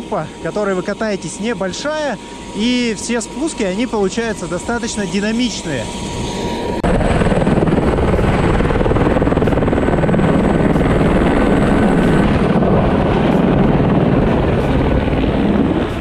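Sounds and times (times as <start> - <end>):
helicopter rotor and engine: 0.0 - 16.0.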